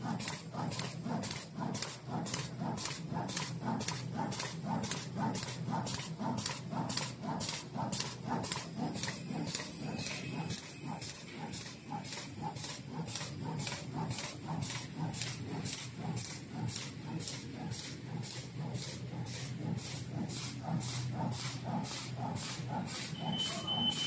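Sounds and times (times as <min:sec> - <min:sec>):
machine rhythmic clatter: 0:00.0 - 0:24.0.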